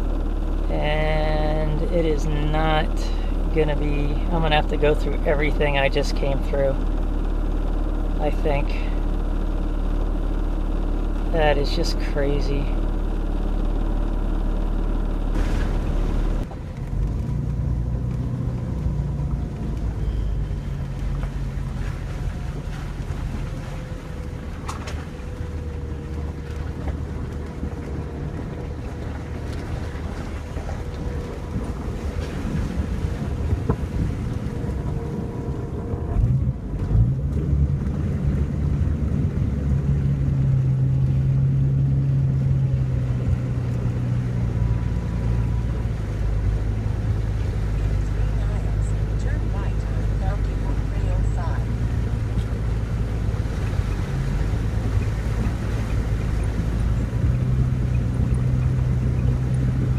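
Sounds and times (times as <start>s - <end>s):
car engine running from inside: 0.0s - 59.9s
road noise: 0.0s - 59.9s.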